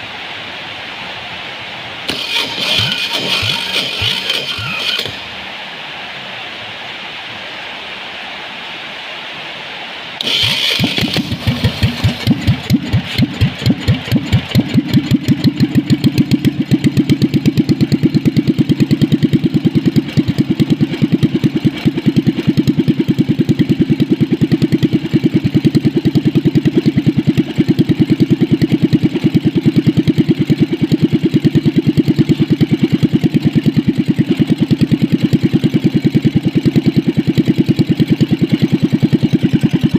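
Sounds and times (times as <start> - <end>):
small engine starting and idling: 2.1 - 5.4, 10.2 - 39.9.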